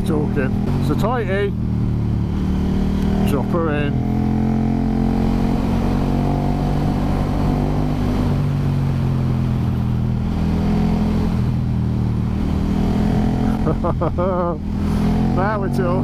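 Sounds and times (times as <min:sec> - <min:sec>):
motorcycle engine running: 0:00.0 - 0:16.0
rushing wind: 0:00.0 - 0:16.0.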